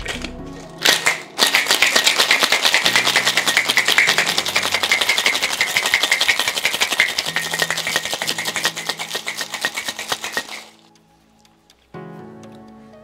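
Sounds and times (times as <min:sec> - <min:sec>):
ice rattling in cocktail shaker: 0:00.0 - 0:10.8.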